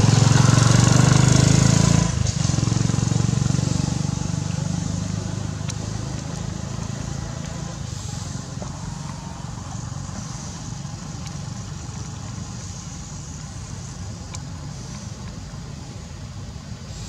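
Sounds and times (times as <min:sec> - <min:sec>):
motor vehicle rumbling: 0:00.0 - 0:17.0.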